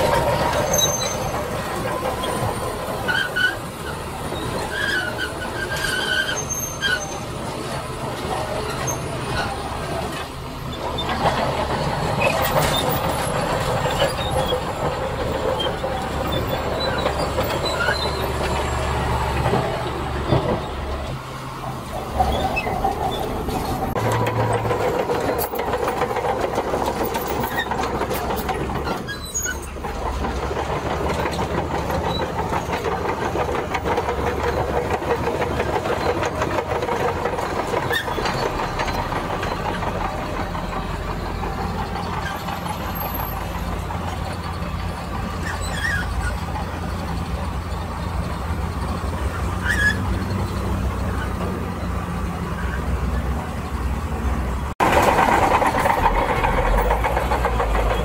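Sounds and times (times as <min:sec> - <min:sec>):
diesel engine rumble: 0:00.0 - 0:58.0
steel tracks clanking and squealing: 0:00.0 - 0:58.0.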